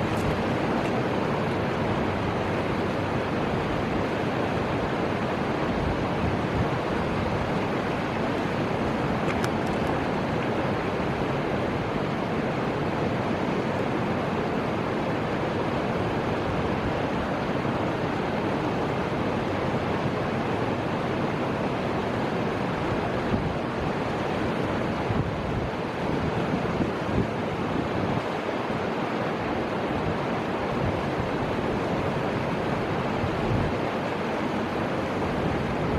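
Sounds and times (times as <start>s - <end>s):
river water rushing: 0.0s - 35.9s
wind: 0.0s - 35.9s.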